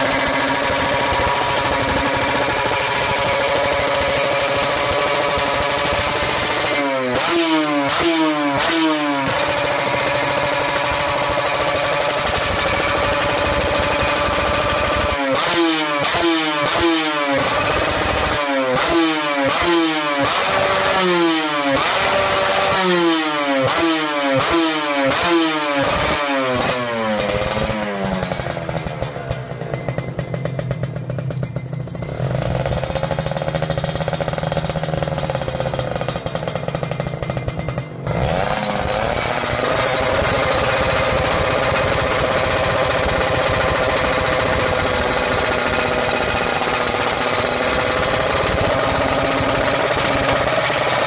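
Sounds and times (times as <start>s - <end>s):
two-stroke motorcycle engine revving: 0.0s - 51.0s.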